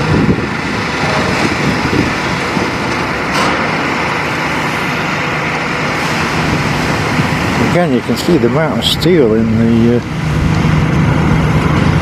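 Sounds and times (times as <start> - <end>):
diesel excavator engine: 0.0 - 12.0
water spraying machine running: 0.0 - 12.0.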